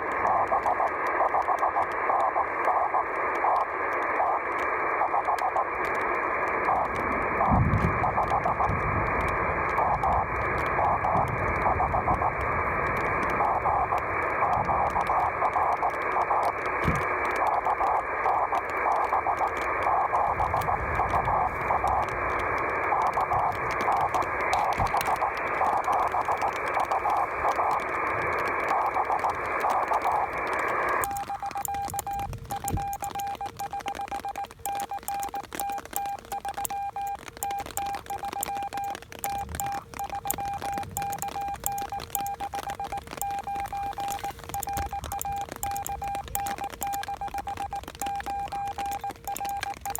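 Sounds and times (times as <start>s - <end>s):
radio receiver hiss: 0.0s - 49.9s
morse code tone: 6.7s - 49.9s.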